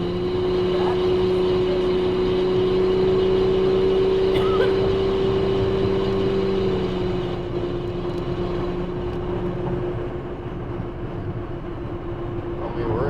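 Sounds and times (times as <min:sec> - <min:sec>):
car engine droning: 0:00.0 - 0:13.0
road noise: 0:00.0 - 0:13.0.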